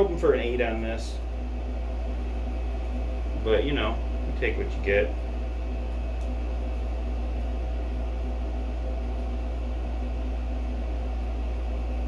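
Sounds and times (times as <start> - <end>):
ventilation hum with hiss: 0.0 - 12.0.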